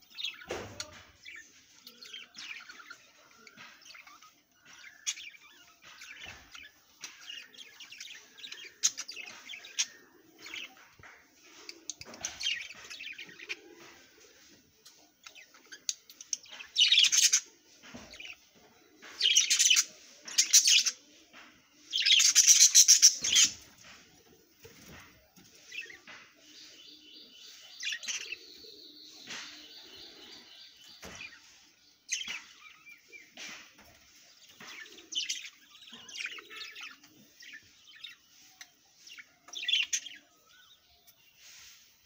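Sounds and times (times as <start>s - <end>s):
budgerigars chirping and chattering: 0.0s - 18.4s, 19.0s - 21.0s, 21.9s - 42.0s.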